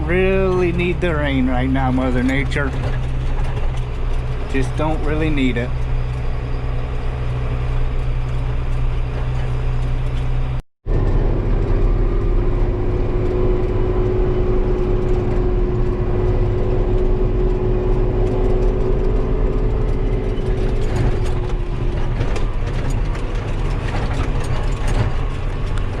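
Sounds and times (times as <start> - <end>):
diesel engine droning: 0.0 - 26.0
gear whine: 0.0 - 26.0.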